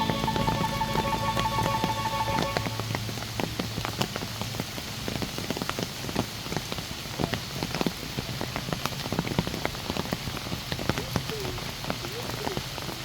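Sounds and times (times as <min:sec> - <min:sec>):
heavy rain hiss: 0:00.0 - 0:13.0
large raindrops striking: 0:00.0 - 0:13.0.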